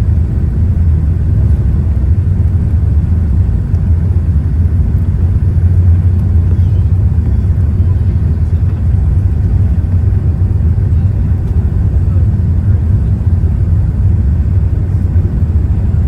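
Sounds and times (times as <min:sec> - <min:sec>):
jet engine rumble inside cabin: 0:00.0 - 0:16.0.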